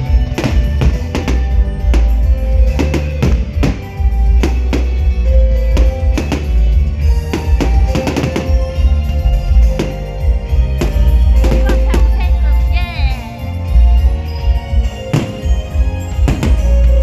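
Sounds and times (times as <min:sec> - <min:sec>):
heavy bass: 0:00.0 - 0:17.0
loud music with drum kit: 0:00.0 - 0:17.0.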